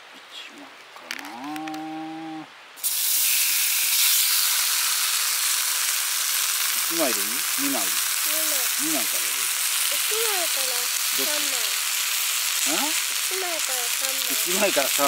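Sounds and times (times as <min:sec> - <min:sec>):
bacon sizzling in a frying pan: 0:02.8 - 0:15.0.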